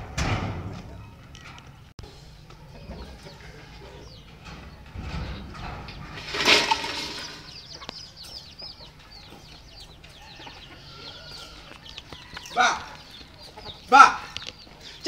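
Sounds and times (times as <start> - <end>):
chicks chirping and peeping: 0.7 - 15.0.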